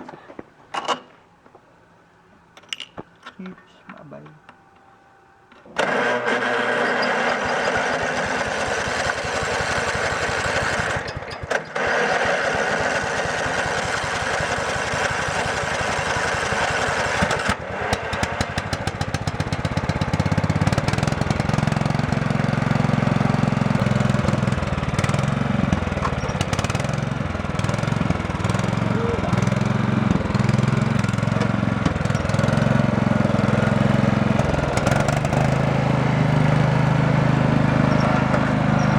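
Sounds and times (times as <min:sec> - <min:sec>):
lawn mower engine running: 0:05.6 - 0:38.9.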